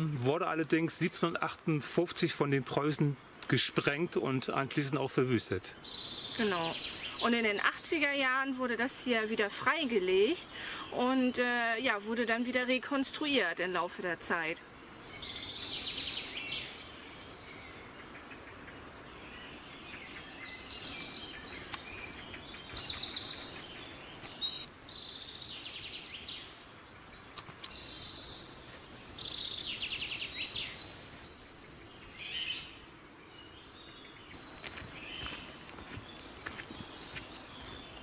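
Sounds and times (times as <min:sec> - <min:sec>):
faint steady background noise: 0:00.0 - 0:38.0
songbirds singing: 0:00.0 - 0:38.0.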